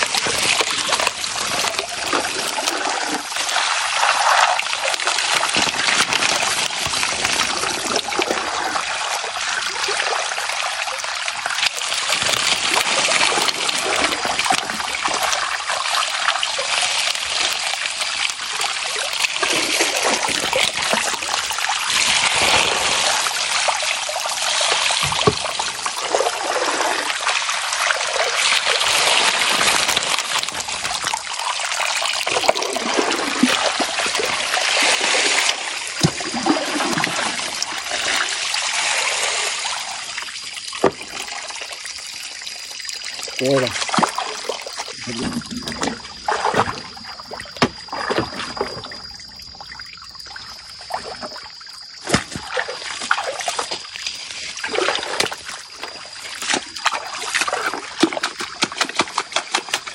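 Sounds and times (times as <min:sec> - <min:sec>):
water splashing down sluice: 0:00.0 - 0:59.9.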